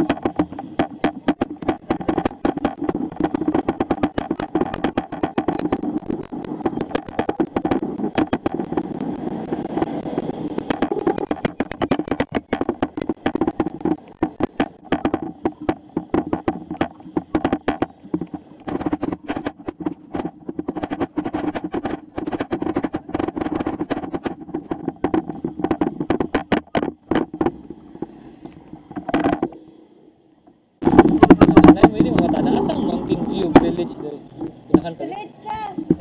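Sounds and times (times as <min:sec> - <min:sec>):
bicycle rattling and knocking: 0:00.0 - 0:28.1, 0:28.8 - 0:29.6, 0:30.8 - 0:36.0
tyre and wind rushing: 0:00.0 - 0:29.5.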